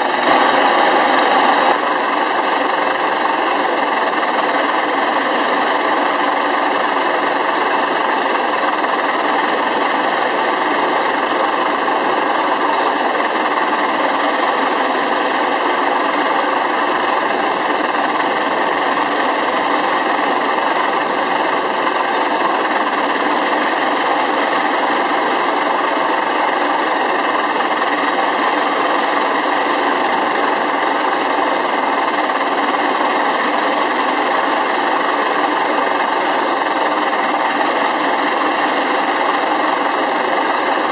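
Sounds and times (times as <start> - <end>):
steam engine running steadily: 0.0 - 40.9.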